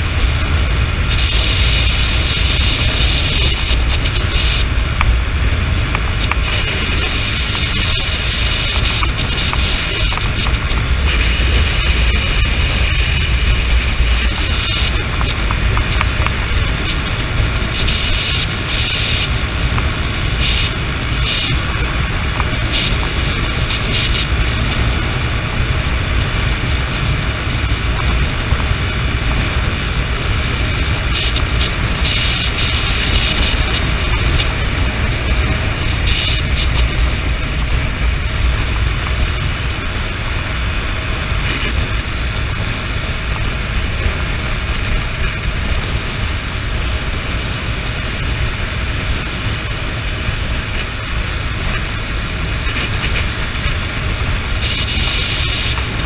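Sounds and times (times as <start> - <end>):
motorcycle engine running: 0.0 - 56.0
road noise: 0.0 - 56.0
wind on microphone: 0.0 - 56.0.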